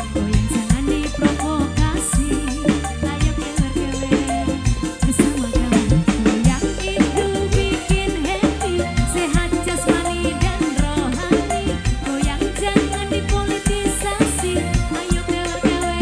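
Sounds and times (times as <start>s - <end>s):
live band music: 0.0s - 16.0s
steady drum beat: 0.0s - 16.0s.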